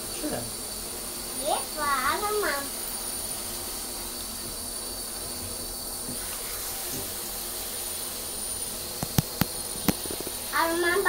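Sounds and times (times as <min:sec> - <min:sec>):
shower spraying into bathtub: 0:00.0 - 0:11.0.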